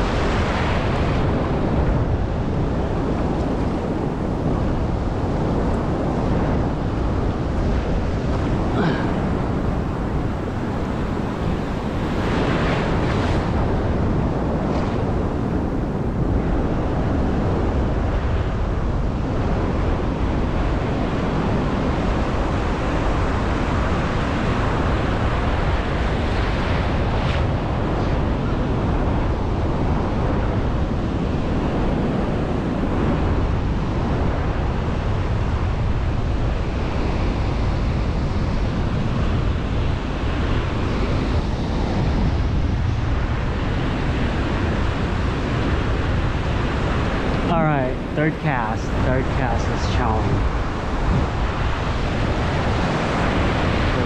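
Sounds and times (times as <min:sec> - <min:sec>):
surf washing and breaking: 0:00.0 - 0:54.0
wind buffeting microphone: 0:00.0 - 0:54.0.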